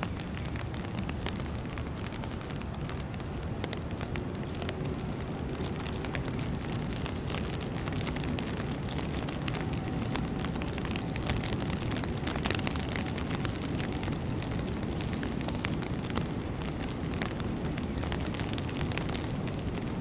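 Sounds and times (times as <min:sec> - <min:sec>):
crackle of small ticks: 0:00.0 - 0:20.0
low city rumble: 0:00.0 - 0:20.0.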